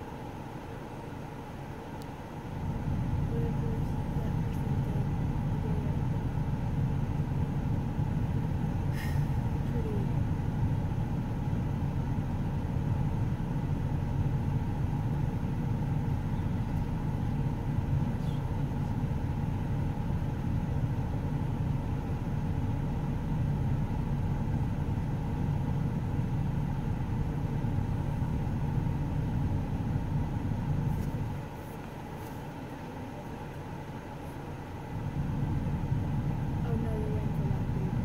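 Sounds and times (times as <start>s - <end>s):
car engine rumble inside cabin: 0.0s - 38.0s.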